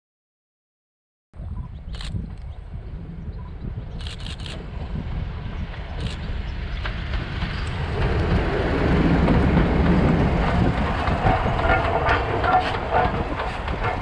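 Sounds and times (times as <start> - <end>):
train rumble: 1.9 - 14.0.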